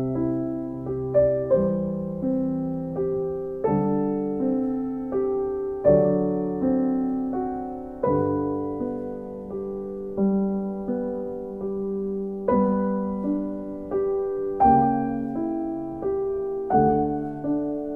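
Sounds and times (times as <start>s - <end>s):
gentle piano chords: 0.0s - 17.9s.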